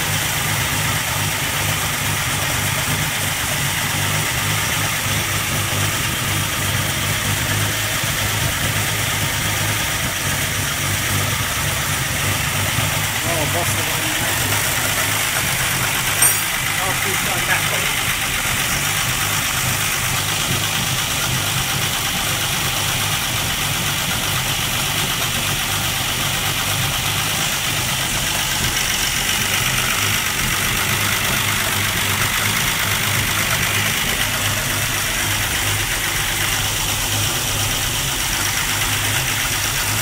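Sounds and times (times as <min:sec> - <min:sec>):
straight-six engine idling: 0:00.0 - 0:40.0.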